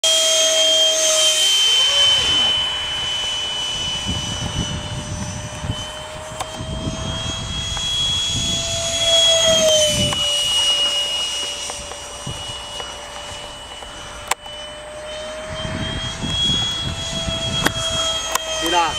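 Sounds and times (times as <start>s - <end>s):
model aeroplane motor whine: 0.0s - 18.9s.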